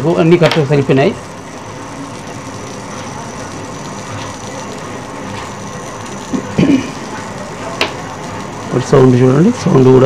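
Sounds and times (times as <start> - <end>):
television speaker hiss and crackle: 0.0 - 10.0.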